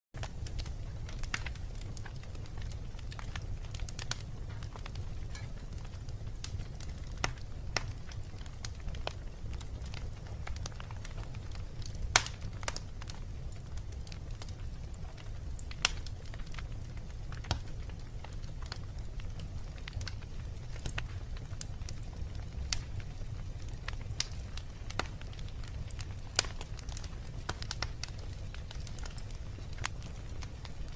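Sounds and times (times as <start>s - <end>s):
fire crackling and popping: 0.2s - 30.9s.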